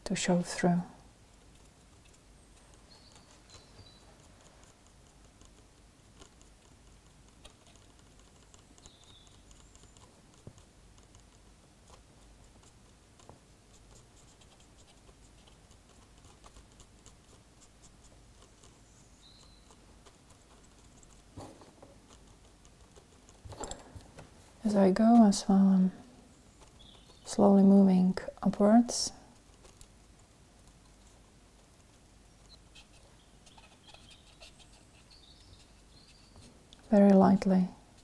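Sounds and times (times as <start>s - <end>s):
cotton bud scratching: 1.0s - 37.0s.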